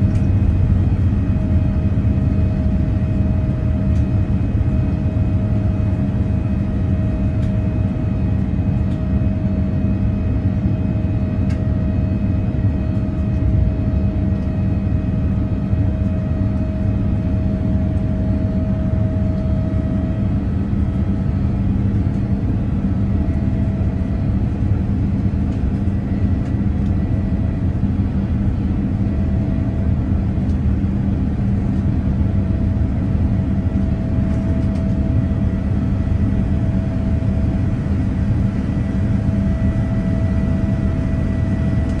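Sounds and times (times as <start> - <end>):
jet engine rumble in cabin: 0.0 - 42.0.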